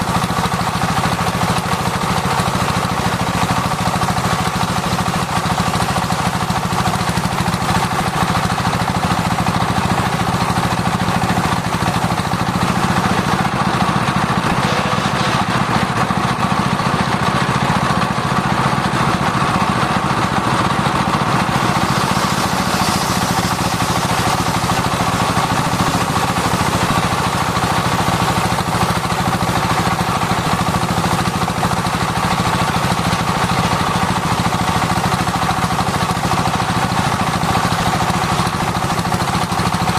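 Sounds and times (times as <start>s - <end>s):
circular saw blade sawing wood: 0.0s - 39.7s.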